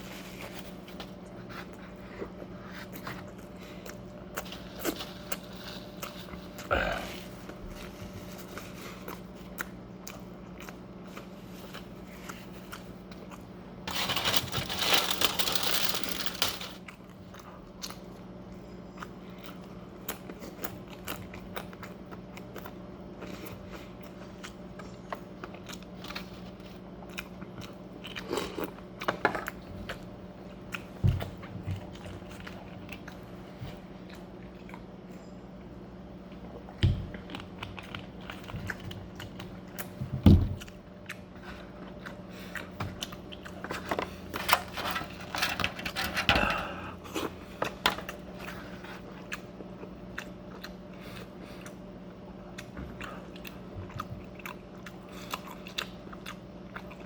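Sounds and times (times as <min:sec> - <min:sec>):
biting and chewing food: 0:00.0 - 0:57.0
steady low hum: 0:00.0 - 0:57.0.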